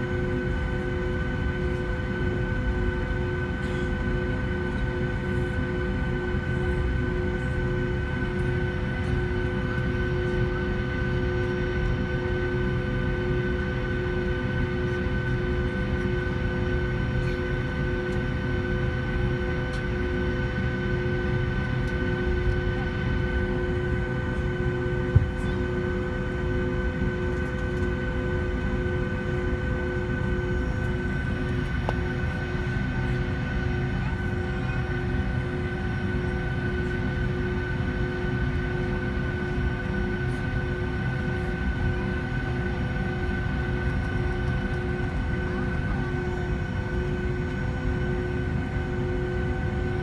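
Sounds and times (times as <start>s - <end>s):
airliner rolling rumble: 0.0s - 50.0s
jet engines whining: 0.0s - 50.0s.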